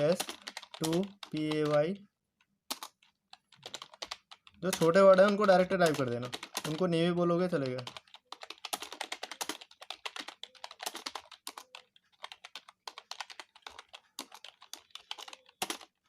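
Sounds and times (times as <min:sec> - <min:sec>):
fast typing on keyboard: 0:00.0 - 0:02.1, 0:02.7 - 0:16.0.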